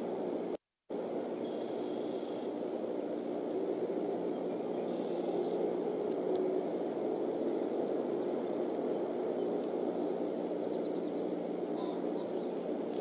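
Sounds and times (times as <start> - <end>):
low outdoor background noise: 0.0 - 13.0
distant birds chirping: 1.2 - 13.0.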